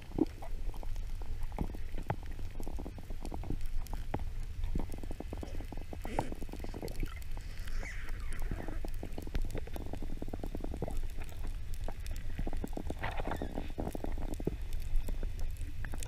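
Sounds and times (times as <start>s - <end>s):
low underwater rumble: 0.0s - 16.0s
muffled underwater noise: 0.0s - 16.0s.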